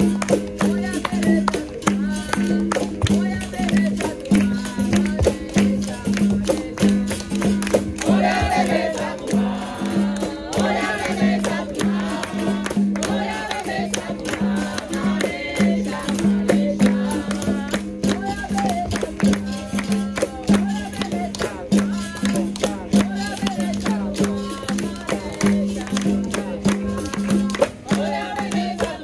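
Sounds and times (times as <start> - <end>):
caxixi rattle shaking: 0.0 - 29.0
group singing: 0.0 - 29.0
pandeiro jingles: 0.0 - 29.0.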